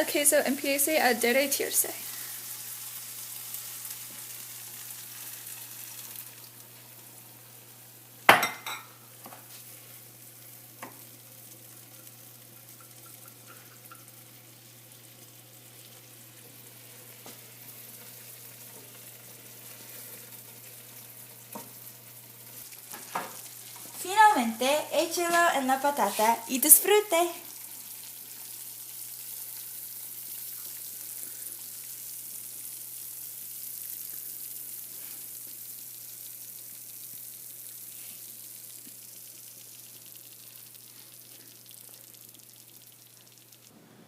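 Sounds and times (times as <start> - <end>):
food sizzling in a frying pan: 0.0 - 43.7.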